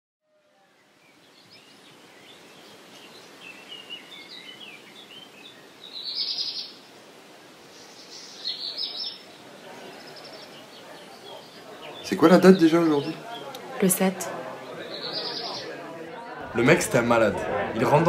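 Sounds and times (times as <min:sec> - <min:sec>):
low background noise: 0:00.3 - 0:18.0
birds chirping: 0:00.6 - 0:17.2.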